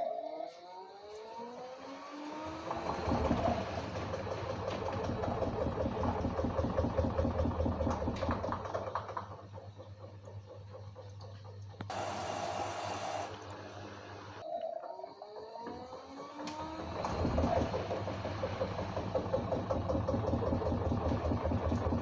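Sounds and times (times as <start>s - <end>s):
washing machine drum turning: 2.5s - 14.4s, 15.7s - 22.0s.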